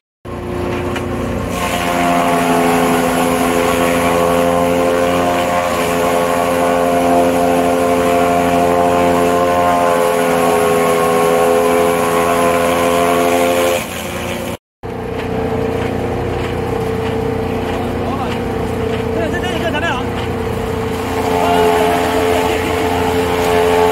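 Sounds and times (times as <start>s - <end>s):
chaff cutter humming: 0.3s - 23.9s.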